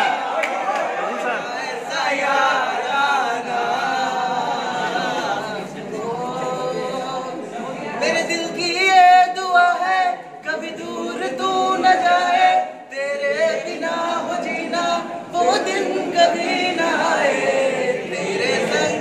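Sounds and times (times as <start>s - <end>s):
young men singing unaccompanied: 1.2s - 19.0s.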